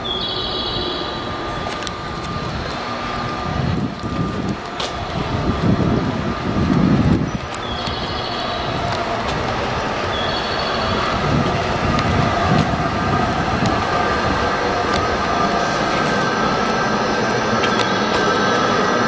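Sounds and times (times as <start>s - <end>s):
thin high whine: 0.0s - 19.0s
train rumbling past: 0.0s - 19.0s.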